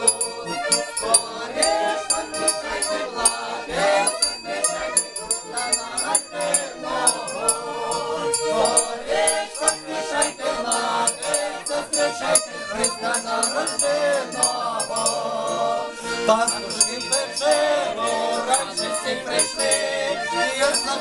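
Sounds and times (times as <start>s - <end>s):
hand bell ringing: 0.0s - 20.0s, 20.6s - 21.0s
accordion: 0.0s - 21.0s
group singing a carol: 0.0s - 21.0s.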